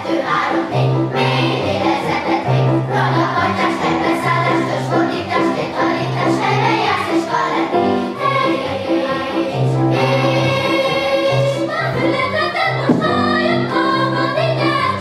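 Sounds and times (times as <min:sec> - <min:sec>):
children's choir singing: 0:00.0 - 0:15.0
piano accompaniment: 0:00.0 - 0:15.0.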